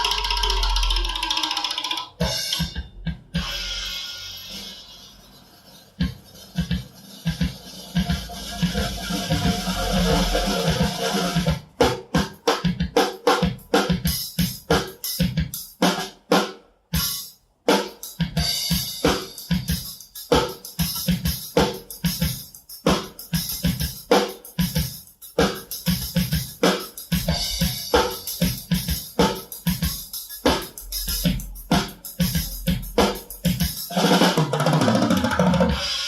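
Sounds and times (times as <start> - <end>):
drum kit playing: 0.0 - 36.0.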